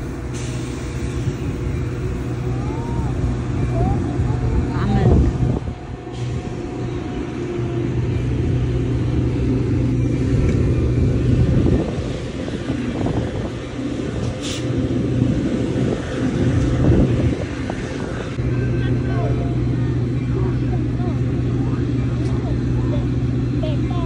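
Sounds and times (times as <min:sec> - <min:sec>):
low hum: 0:00.0 - 0:24.0
train wheels rumbling on rails: 0:00.0 - 0:24.0.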